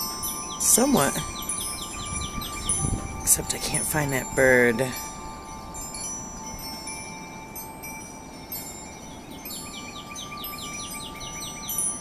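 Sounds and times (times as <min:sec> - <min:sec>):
wind chimes ringing: 0:00.0 - 0:12.0.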